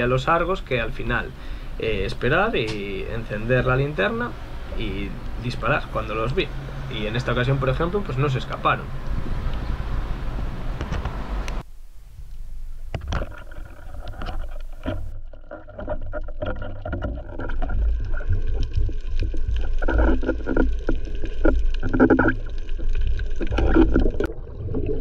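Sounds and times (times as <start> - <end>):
moving water underwater: 0.0 - 9.9, 12.0 - 25.0.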